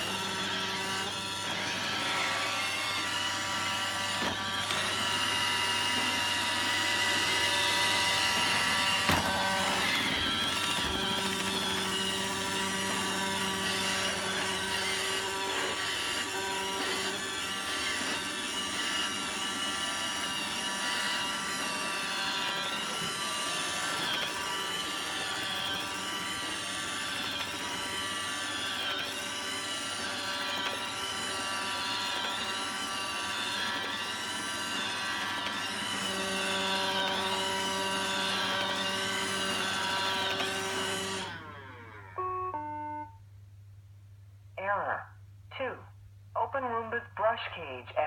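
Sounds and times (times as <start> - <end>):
robot vacuum whine: 0.0 - 43.2.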